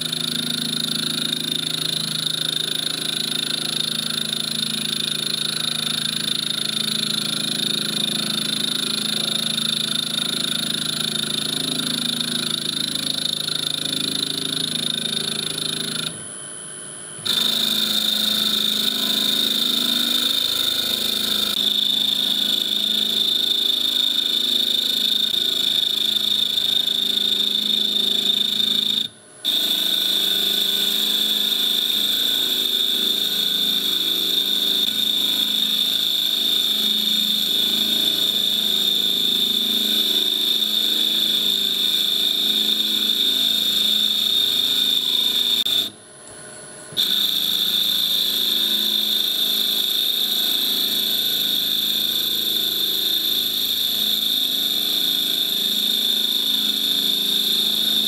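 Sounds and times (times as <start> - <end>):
milling machine high whine: 0.0 - 58.0.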